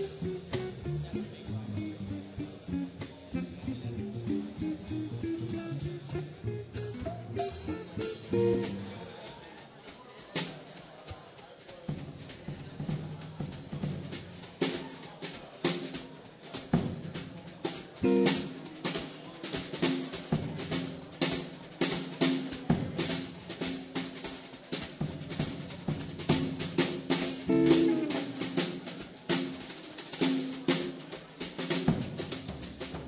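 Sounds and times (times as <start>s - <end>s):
swing jazz band playing: 0.0s - 9.4s, 11.9s - 16.2s, 16.8s - 33.0s
snare and cymbal hits: 0.0s - 33.0s.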